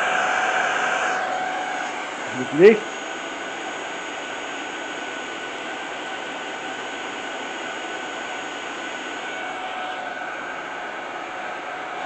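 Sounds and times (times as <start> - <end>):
stick vacuum running: 0.0 - 12.0.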